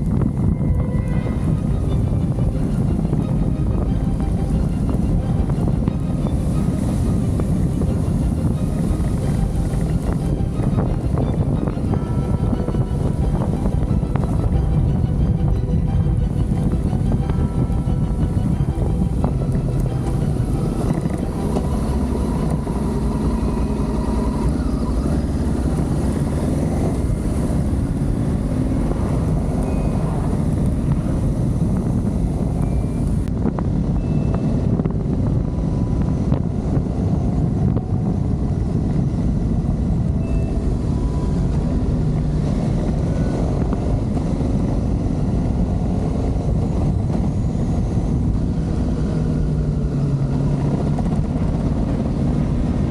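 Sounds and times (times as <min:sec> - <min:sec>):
motorcycle engine drone: 0:00.0 - 0:52.9
wind and road rush: 0:00.0 - 0:52.9.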